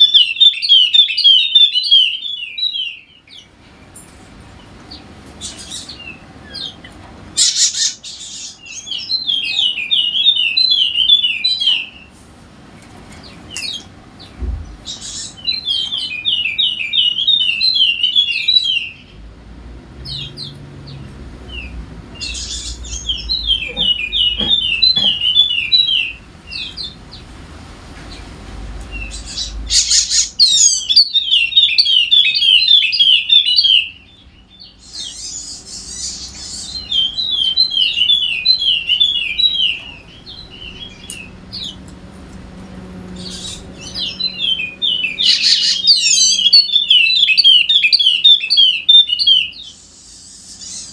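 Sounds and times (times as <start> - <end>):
sharp high bird calls: 0.0 - 3.6, 4.9 - 12.2, 14.7 - 19.2, 20.0 - 27.2, 28.9 - 41.8, 43.1 - 50.9
bird chattering song: 0.0 - 12.2, 13.1 - 19.2, 20.0 - 27.3, 28.1 - 41.9, 42.6 - 50.9.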